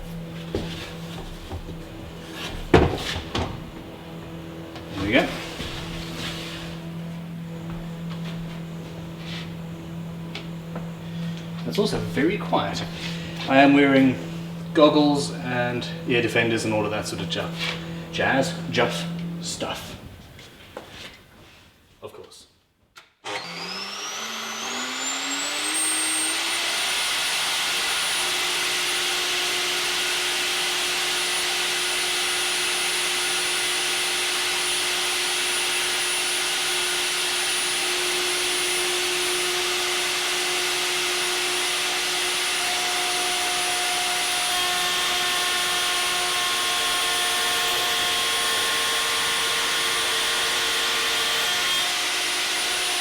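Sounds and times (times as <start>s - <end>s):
router motor whining: 0.0s - 20.0s, 23.2s - 53.0s.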